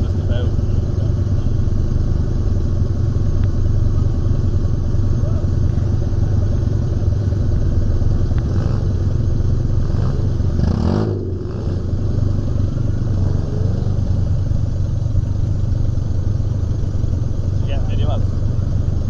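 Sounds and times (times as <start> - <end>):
dune buggy engine running: 0.0 - 19.0.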